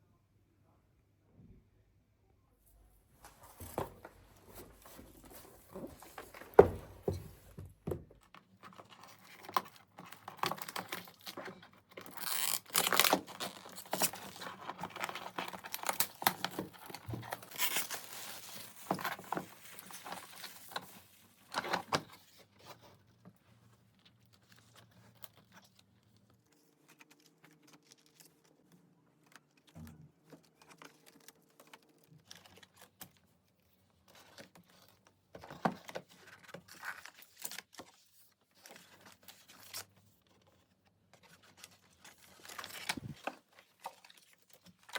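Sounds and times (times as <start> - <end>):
rustling and crinkling: 2.7 - 44.9.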